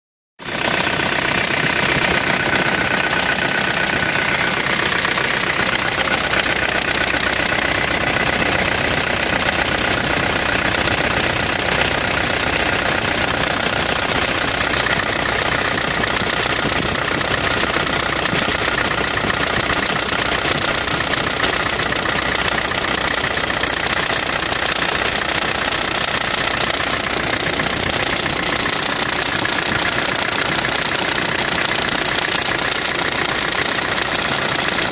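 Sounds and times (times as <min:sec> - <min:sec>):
engine knocking rattle: 0:00.4 - 0:34.9.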